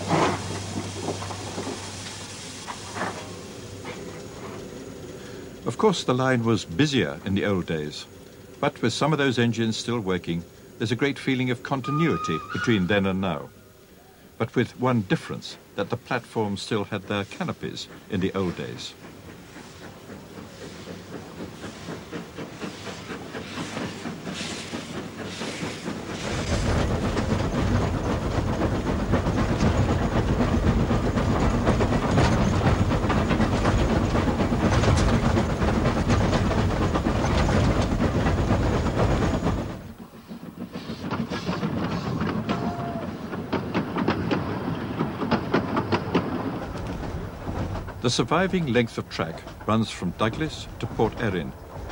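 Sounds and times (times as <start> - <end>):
steam noise: 0.0 - 51.9
steam train clattering: 0.0 - 51.9.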